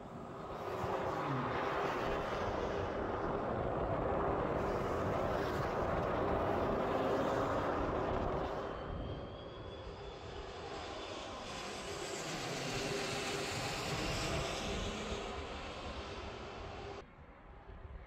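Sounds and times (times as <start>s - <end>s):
higher jet whine: 0.0s - 17.1s
airliner jet engines landing: 0.0s - 17.4s.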